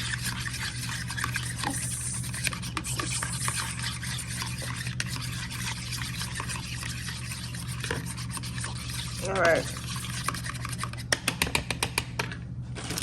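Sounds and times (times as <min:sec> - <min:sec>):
eggs being stirred in a bowl: 0:00.0 - 0:13.0
steady low hum: 0:00.0 - 0:13.0.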